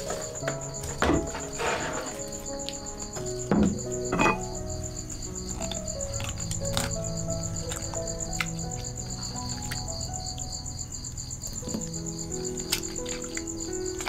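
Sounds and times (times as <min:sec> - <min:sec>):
cricket chirping: 0:00.0 - 0:14.0
soft background music: 0:00.0 - 0:14.0.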